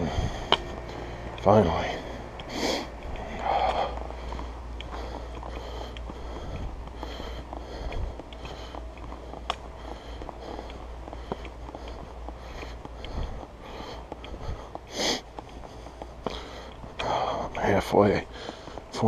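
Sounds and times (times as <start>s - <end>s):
low rumble: 0.0s - 17.6s
person breathing hard: 0.0s - 17.6s, 18.2s - 19.0s
footsteps on dirt trail: 0.0s - 19.0s.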